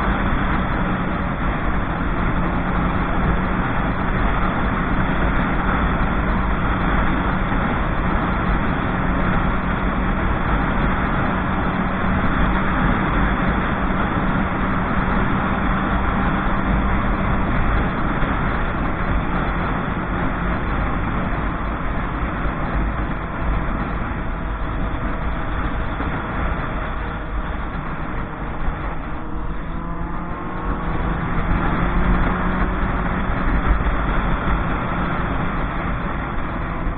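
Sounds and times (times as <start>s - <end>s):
motorcycle engine: 0.0s - 36.9s
wind rushing over microphone: 0.0s - 36.9s.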